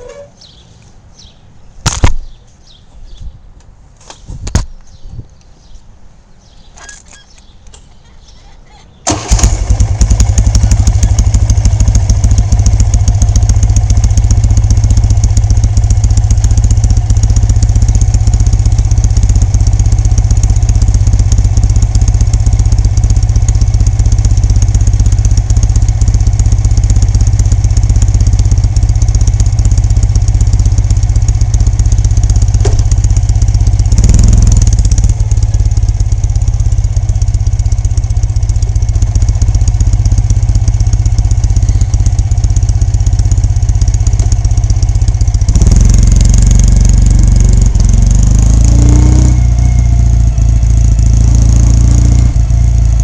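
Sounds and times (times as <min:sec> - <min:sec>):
motorcycle engine idling: 0:09.0 - 0:53.0.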